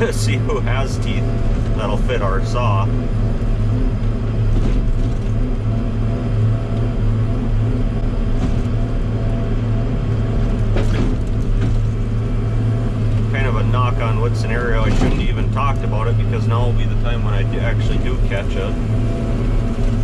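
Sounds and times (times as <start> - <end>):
engine running with low hum: 0.0 - 20.0.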